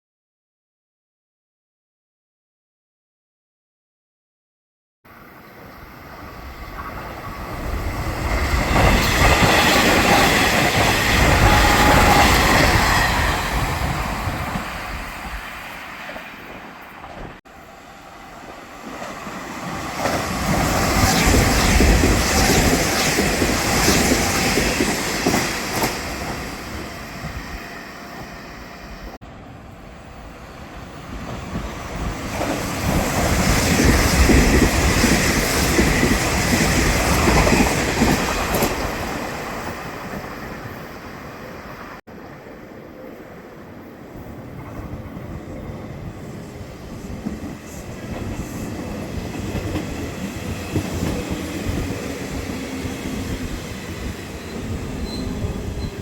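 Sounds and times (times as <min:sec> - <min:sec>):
electric trains passing: 0:05.1 - 0:56.0.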